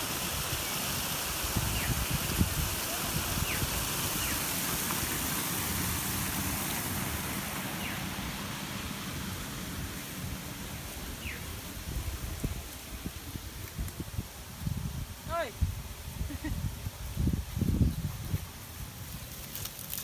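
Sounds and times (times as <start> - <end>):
creek waterfall rushing: 0.0 - 17.3.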